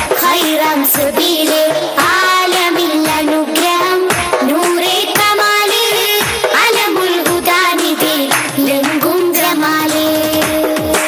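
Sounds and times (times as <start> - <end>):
singing over dance music: 0.0 - 11.0
steady drum beat: 0.0 - 11.0.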